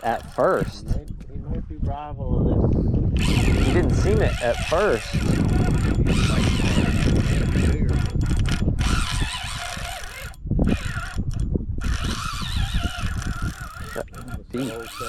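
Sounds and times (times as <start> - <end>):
fishing reel whirring: 0.0 - 1.2, 3.1 - 15.0
wind buffeting the microphone: 0.0 - 15.0.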